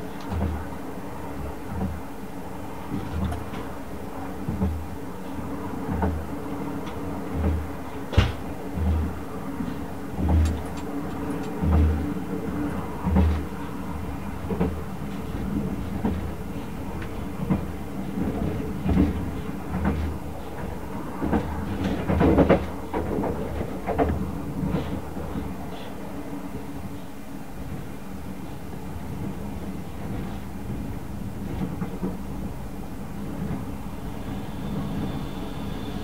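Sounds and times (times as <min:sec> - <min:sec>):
train coach ride rumble: 0:00.0 - 0:36.0.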